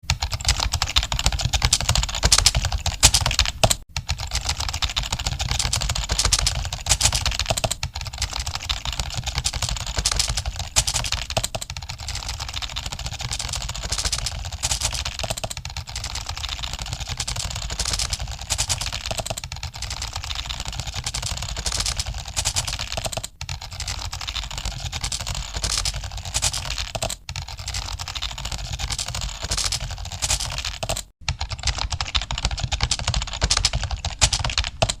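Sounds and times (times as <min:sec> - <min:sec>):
keyboard typing clatter: 0:00.0 - 0:35.0.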